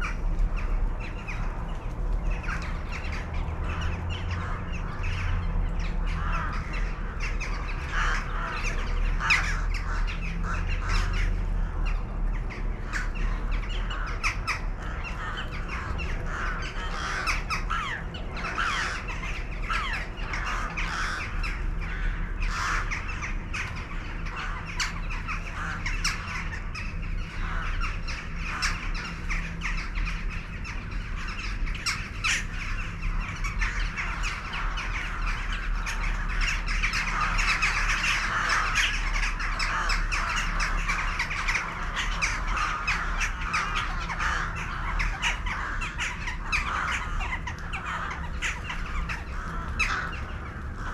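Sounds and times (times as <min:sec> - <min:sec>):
flock of birds chattering: 0:00.0 - 0:50.9.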